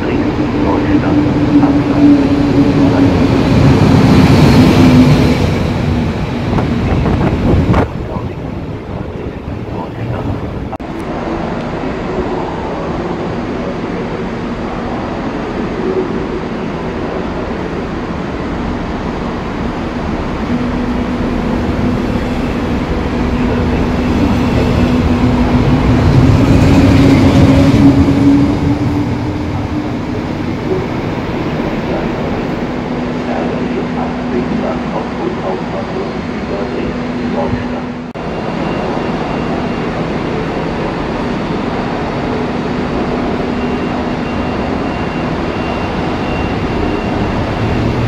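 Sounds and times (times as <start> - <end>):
train rumbling with hum: 0.0 - 48.0.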